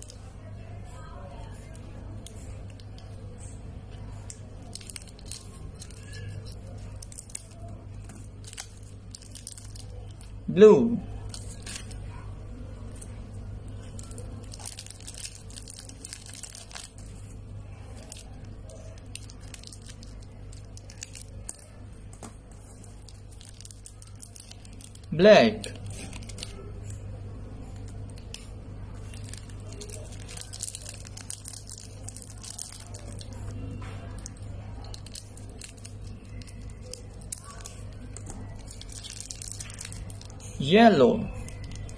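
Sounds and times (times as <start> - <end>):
plastic wrapper crinkling: 0.0 - 0.4, 1.6 - 10.4, 11.0 - 41.9
steady low hum: 0.0 - 41.9.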